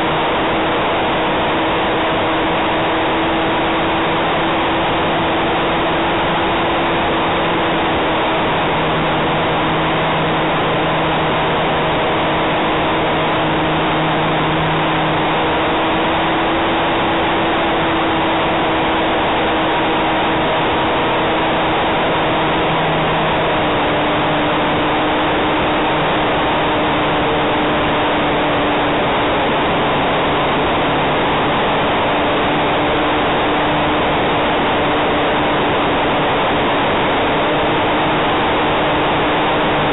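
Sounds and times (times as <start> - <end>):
model plane motor hum: 0.0 - 39.9
rush of air noise: 0.0 - 39.9.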